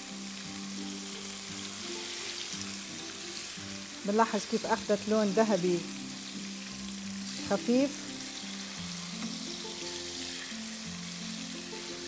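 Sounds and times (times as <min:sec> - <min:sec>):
fish sizzling in oil: 0:00.0 - 0:12.0
soft background music: 0:00.0 - 0:12.0.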